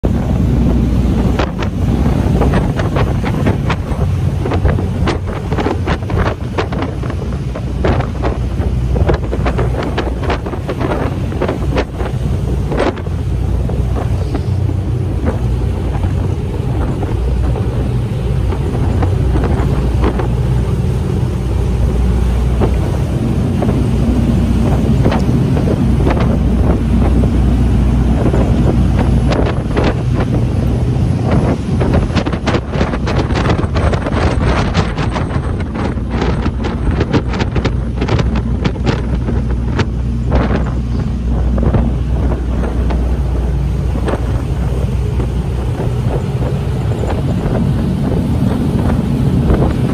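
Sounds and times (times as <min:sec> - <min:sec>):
boat engine rumble: 0:00.0 - 0:49.9
churning wake water: 0:00.0 - 0:49.9
wind buffeting microphone: 0:00.0 - 0:49.9.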